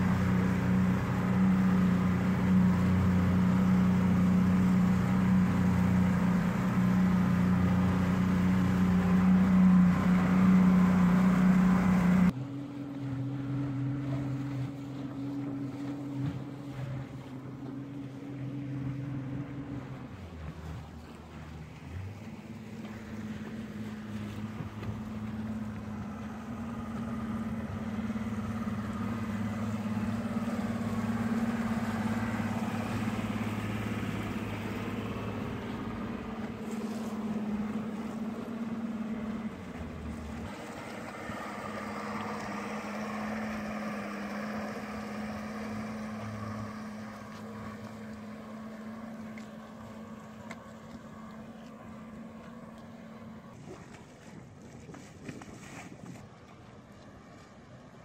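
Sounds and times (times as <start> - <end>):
outboard motor droning: 0.0 - 58.0
water rushing along hull: 0.0 - 58.0
wind: 0.0 - 58.0.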